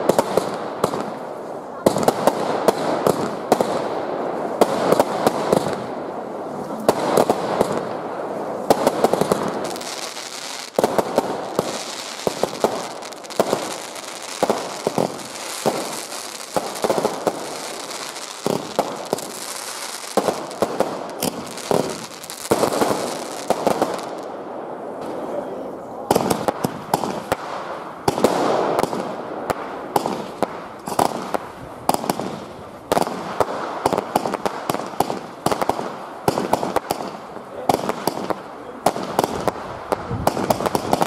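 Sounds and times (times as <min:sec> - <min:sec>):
fireworks bangs and pops: 0:00.0 - 0:24.3, 0:26.1 - 0:41.0
fireworks crackling: 0:00.0 - 0:41.0.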